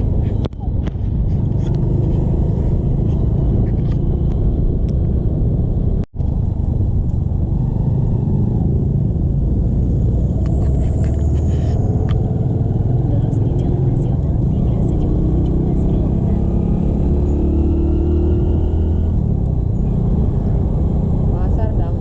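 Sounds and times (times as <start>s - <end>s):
motorcycle engine rumble: 0.0s - 22.0s
road noise: 0.0s - 22.0s.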